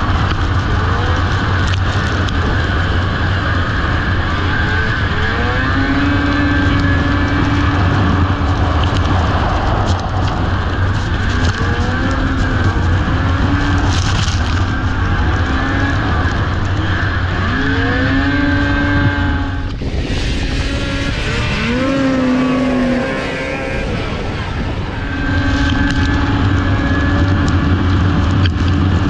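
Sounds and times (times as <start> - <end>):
snowmobile engines accelerating: 0.0 - 29.0.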